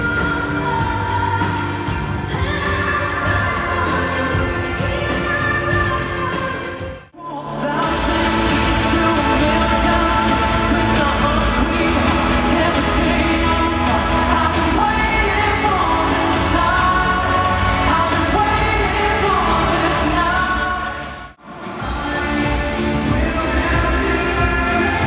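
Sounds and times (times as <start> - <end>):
pop song with lead singer: 0.0 - 25.0.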